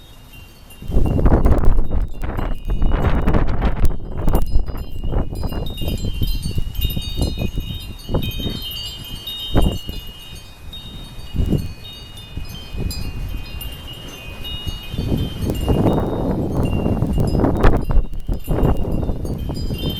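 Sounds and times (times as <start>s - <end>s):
metal wind chimes ringing: 0.0s - 19.9s
wind gusting across microphone: 0.0s - 19.9s.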